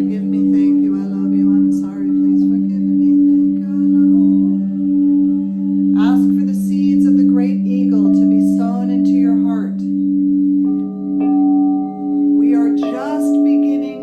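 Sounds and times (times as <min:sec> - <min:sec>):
higher wavering tones: 0:00.0 - 0:14.0
singing bowls ringing: 0:00.0 - 0:14.0.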